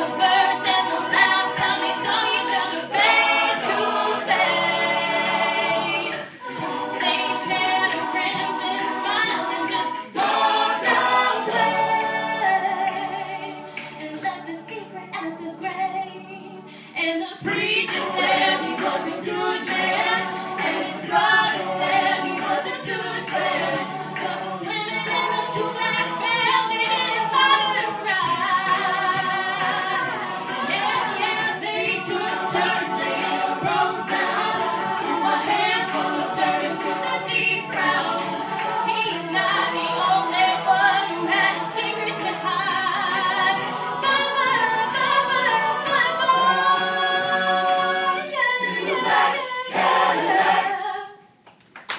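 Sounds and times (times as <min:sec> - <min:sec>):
a cappella group singing: 0:00.0 - 0:51.4.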